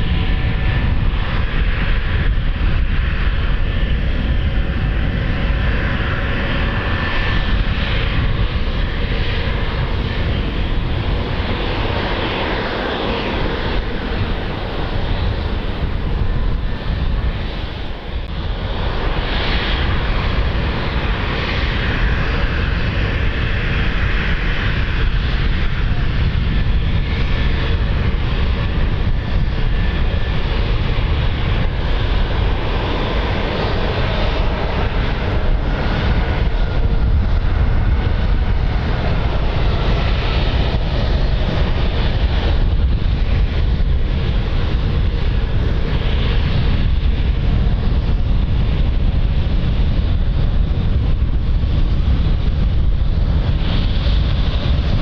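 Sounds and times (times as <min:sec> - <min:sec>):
airliner engines rumbling: 0:00.0 - 0:55.0.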